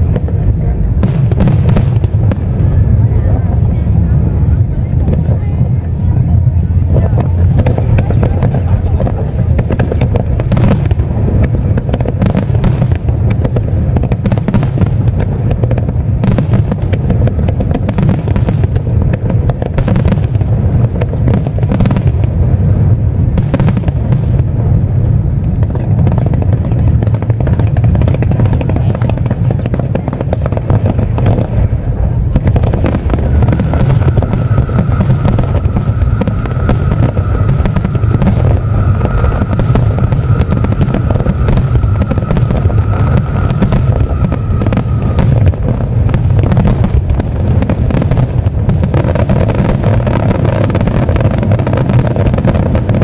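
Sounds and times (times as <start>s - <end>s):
fireworks bangs and crackles: 0.0s - 53.0s
low rumble: 0.0s - 53.0s.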